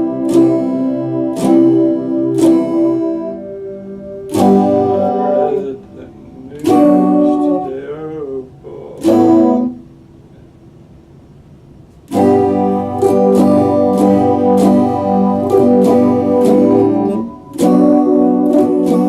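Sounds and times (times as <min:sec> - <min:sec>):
electric guitar strumming chords: 0:00.0 - 0:10.5, 0:12.0 - 0:19.0.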